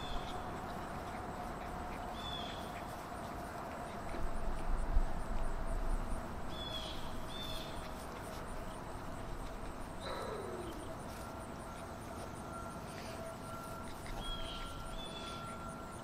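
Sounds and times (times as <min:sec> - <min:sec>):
faint steady hum: 0:00.0 - 0:16.0
steady outdoor hiss: 0:00.0 - 0:16.0.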